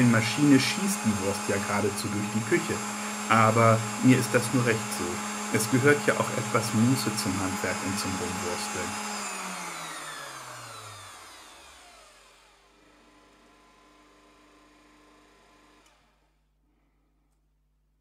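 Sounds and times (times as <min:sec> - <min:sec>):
meat grinder motor winding down: 0:00.0 - 0:16.3.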